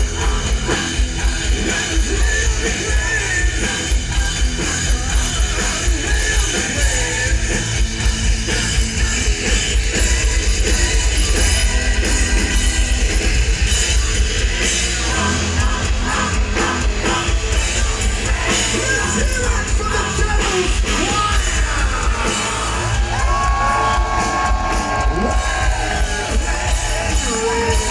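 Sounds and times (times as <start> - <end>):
distorted electric guitars: 0.0 - 27.9
fast bass-drum beat: 0.0 - 27.9.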